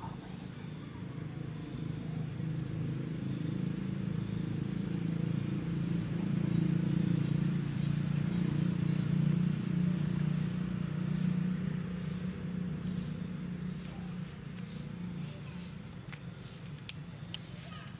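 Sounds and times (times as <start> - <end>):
vehicle engine rumbling: 0.0 - 17.9.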